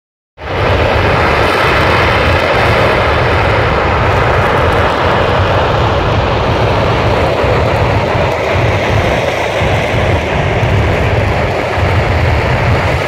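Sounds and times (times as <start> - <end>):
deep low rumble: 0.4 - 13.0
rocket engine roaring: 0.4 - 13.0.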